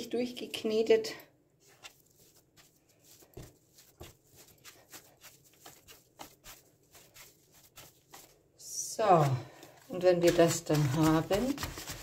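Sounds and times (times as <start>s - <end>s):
dough kneaded on wooden board: 1.6s - 12.0s.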